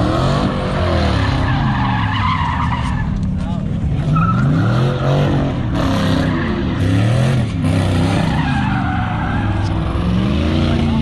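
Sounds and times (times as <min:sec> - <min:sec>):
car engine revving: 0:00.0 - 0:11.0
tyres screeching: 0:00.1 - 0:11.0.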